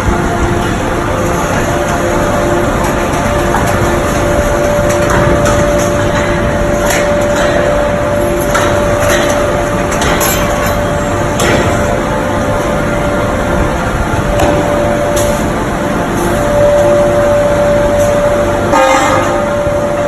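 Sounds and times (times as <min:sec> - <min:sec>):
factory machinery humming: 0:00.0 - 0:20.0.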